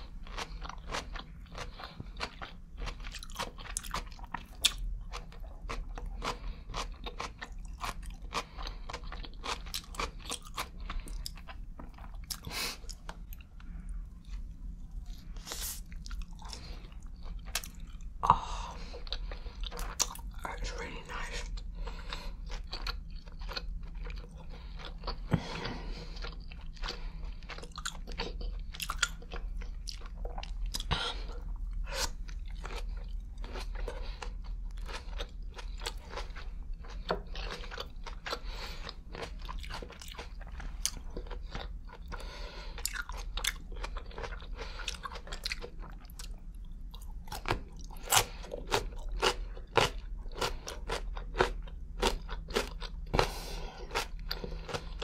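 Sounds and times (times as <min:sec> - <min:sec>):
chewing with crunches: 0:00.0 - 0:55.0
faint low hum: 0:00.0 - 0:55.0.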